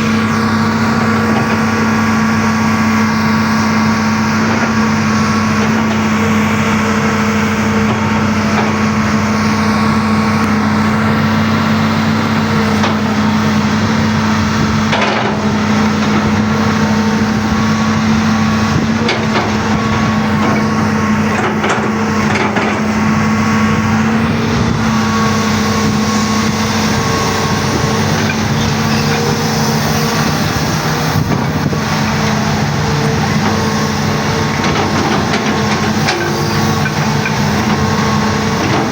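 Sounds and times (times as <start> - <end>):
excavator engine humming: 0.0 - 38.9.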